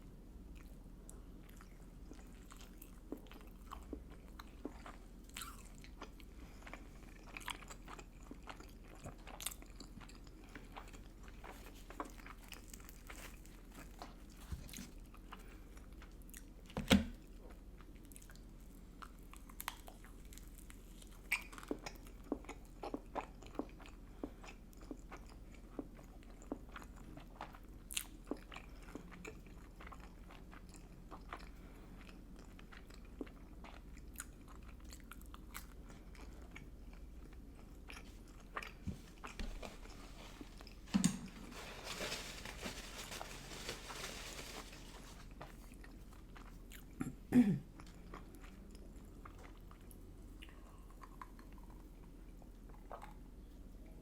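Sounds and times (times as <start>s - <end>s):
close-up chewing and crunching: 0.5s - 54.0s.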